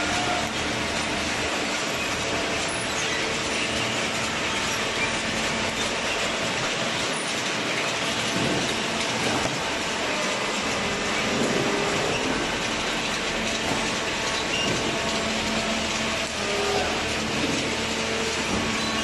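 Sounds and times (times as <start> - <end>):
faint machine hum: 0.0 - 19.0
machinery rattling: 0.0 - 19.0.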